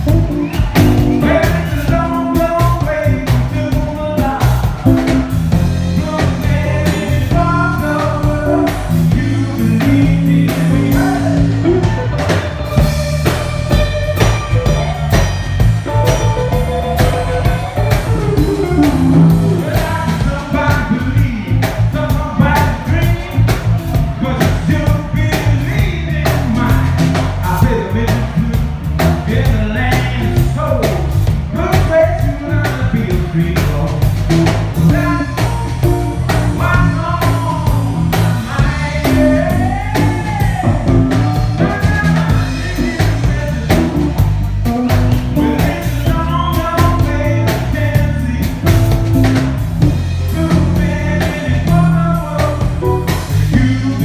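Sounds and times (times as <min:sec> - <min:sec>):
electric guitar: 0:00.0 - 0:31.8, 0:32.5 - 0:54.0
drum kit: 0:00.0 - 0:54.0
electric bass: 0:00.0 - 0:54.0
man singing: 0:00.0 - 0:54.0.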